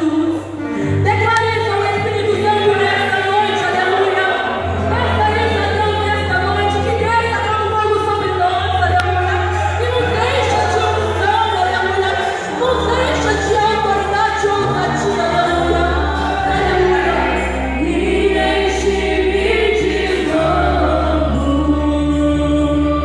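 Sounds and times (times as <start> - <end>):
choir singing gospel music: 0.0 - 23.0
long held bass notes: 0.0 - 23.0.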